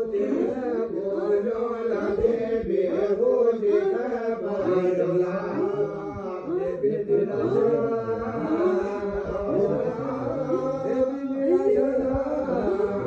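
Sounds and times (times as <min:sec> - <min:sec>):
voices chanting a devotional hymn: 0:00.0 - 0:13.0.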